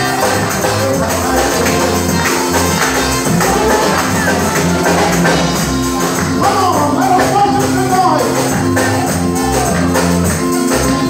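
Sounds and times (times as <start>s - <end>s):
keyboard sustained chords: 0.0s - 11.0s
person singing: 0.0s - 11.0s
steady percussion beat: 0.0s - 11.0s.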